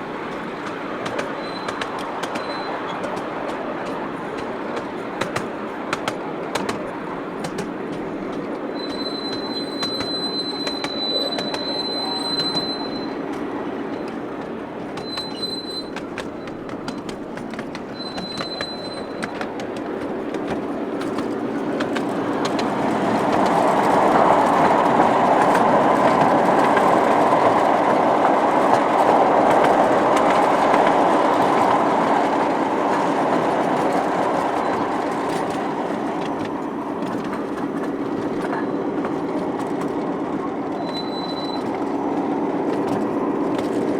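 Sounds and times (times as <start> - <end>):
miniature train running: 0.0 - 43.9
wheels clicking over rail joints: 0.0 - 43.9
wheels squealing: 0.0 - 43.9.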